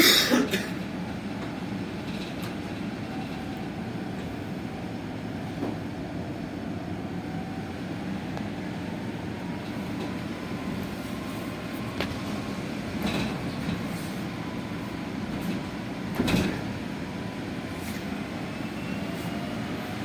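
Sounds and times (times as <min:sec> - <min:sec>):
bus cabin rumble: 0:00.0 - 0:20.0.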